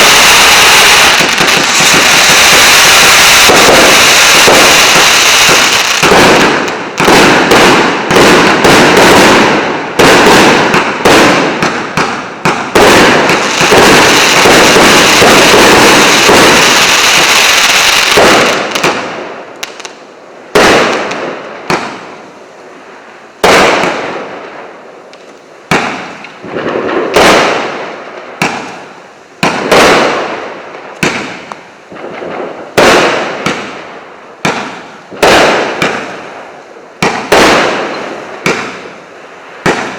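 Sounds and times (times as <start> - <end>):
fireworks cake firing: 0.0 - 22.2, 23.4 - 39.9.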